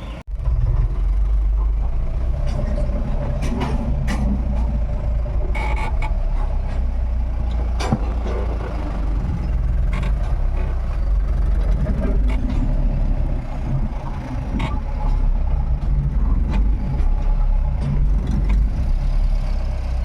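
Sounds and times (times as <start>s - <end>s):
pickup engine rumbling: 0.0s - 20.0s.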